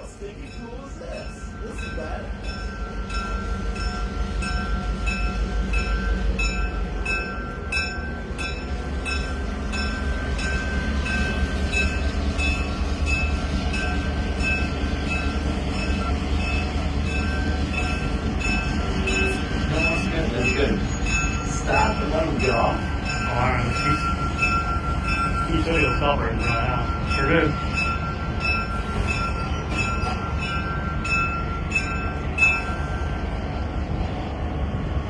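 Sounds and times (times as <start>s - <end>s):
train rumbling past: 0.0s - 35.0s.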